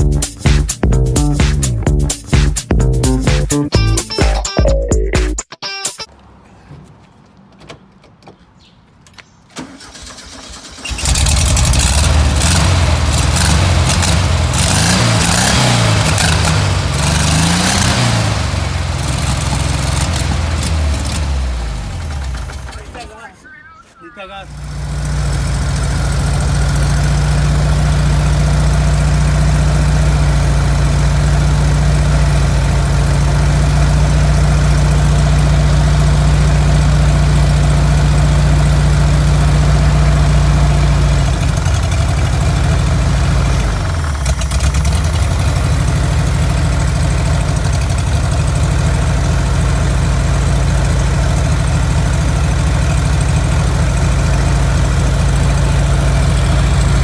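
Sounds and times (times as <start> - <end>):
car engine idling: 9.5 - 57.0.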